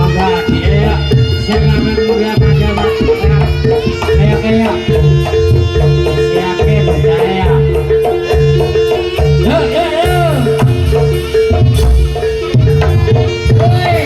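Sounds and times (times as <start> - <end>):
hand drums beating: 0.0 - 14.0.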